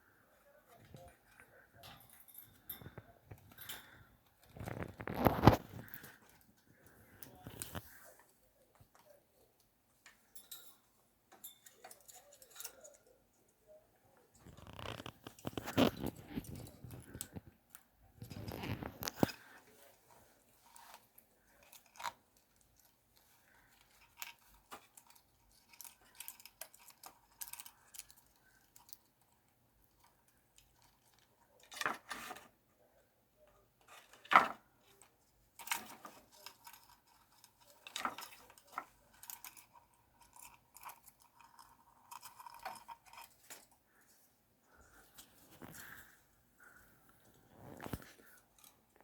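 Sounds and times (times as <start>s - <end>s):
parrot chewing a toy: 0.7s - 9.0s, 14.4s - 31.7s, 34.8s - 49.0s.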